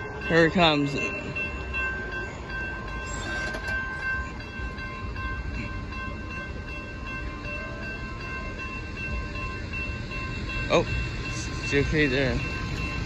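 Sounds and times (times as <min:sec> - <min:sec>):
freight train rumble: 0:00.0 - 0:13.0
railroad crossing bell ringing: 0:00.0 - 0:13.0.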